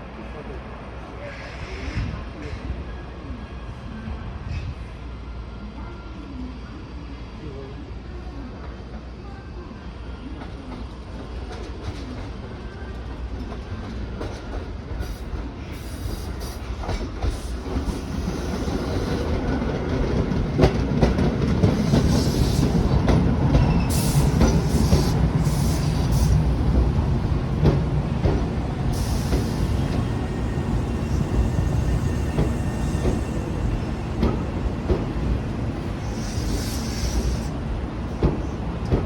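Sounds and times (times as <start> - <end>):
electric train running on rails: 0.0 - 39.0.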